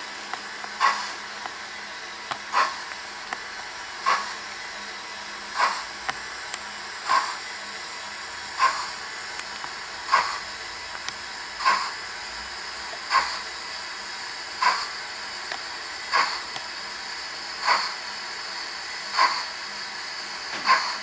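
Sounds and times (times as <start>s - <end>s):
model steam engine chuffs: 0.0s - 21.0s.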